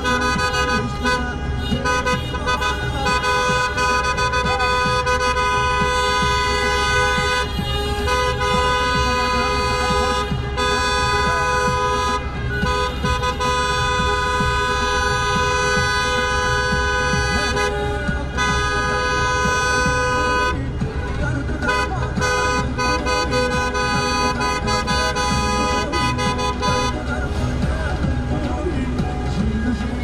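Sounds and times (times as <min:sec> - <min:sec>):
car horns honking: 0:00.0 - 0:29.8
low rumble of cars driving: 0:00.0 - 0:30.0.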